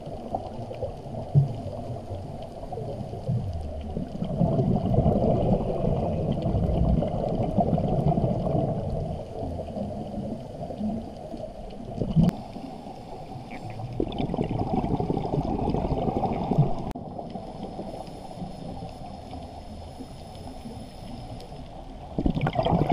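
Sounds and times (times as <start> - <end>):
underwater regulator bubbles: 0.0 - 22.9.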